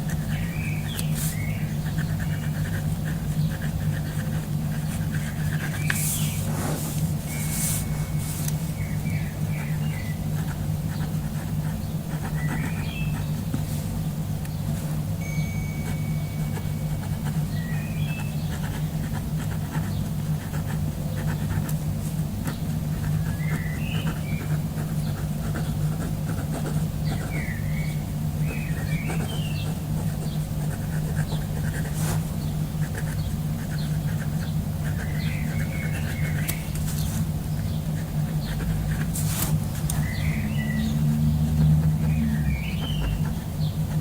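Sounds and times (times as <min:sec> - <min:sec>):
steady low hum: 0:00.0 - 0:44.0
birds chirping: 0:00.1 - 0:20.4, 0:22.4 - 0:44.0.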